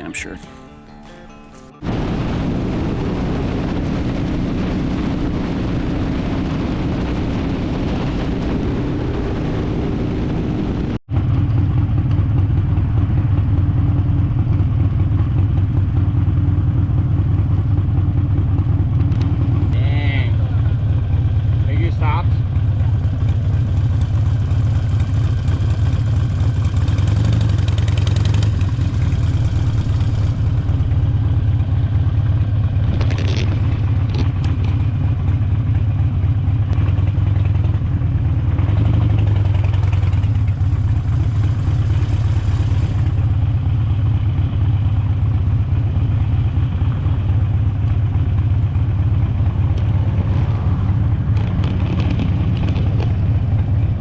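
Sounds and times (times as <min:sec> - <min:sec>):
motorcycle engine running: 0:01.8 - 0:54.0.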